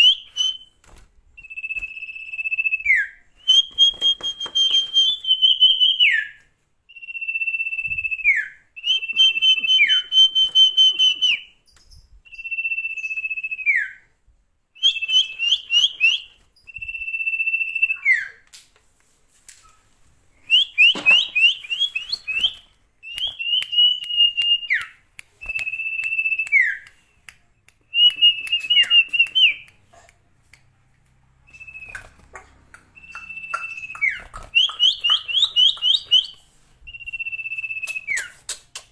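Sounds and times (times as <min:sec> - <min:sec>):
songbird whistling and trilling: 0:00.0 - 0:00.8, 0:01.4 - 0:14.1, 0:14.8 - 0:18.4, 0:20.4 - 0:27.0, 0:27.9 - 0:29.7, 0:31.5 - 0:38.6.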